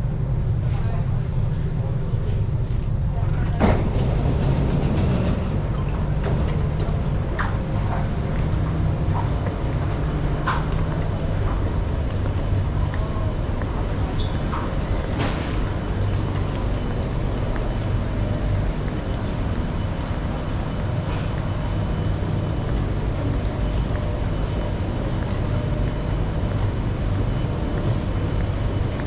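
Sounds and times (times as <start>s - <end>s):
machinery and ventilation drone: 0.0s - 29.0s.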